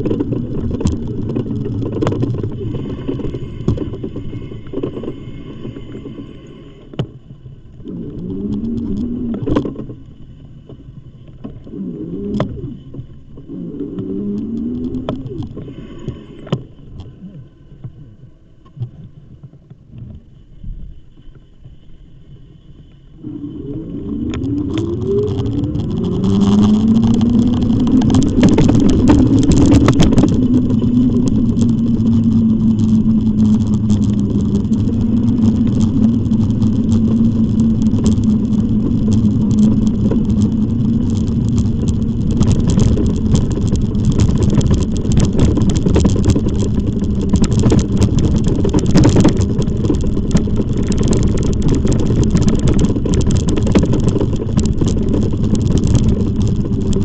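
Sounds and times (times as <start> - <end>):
motor hum: 0.0 - 57.0
wind and tyres rumbling: 0.0 - 57.0.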